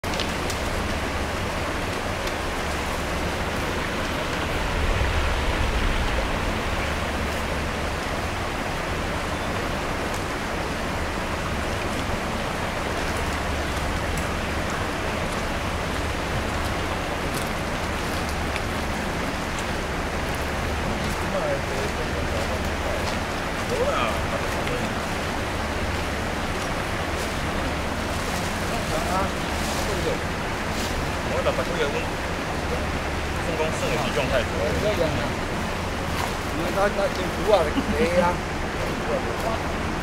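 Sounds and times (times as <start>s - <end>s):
stream water rushing: 0.0s - 40.0s.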